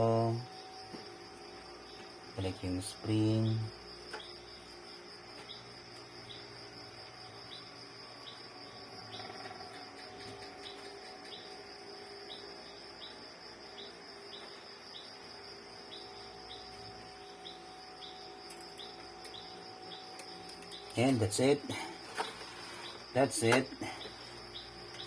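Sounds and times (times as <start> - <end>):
insect trilling: 0.0 - 25.0
short high insect chirp: 0.0 - 25.0.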